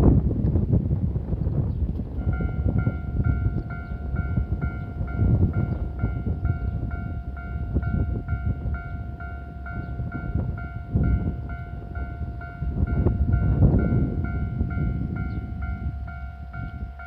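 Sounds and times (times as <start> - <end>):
train rumbling: 0.0 - 17.0
crossing warning bell dinging: 2.1 - 17.0.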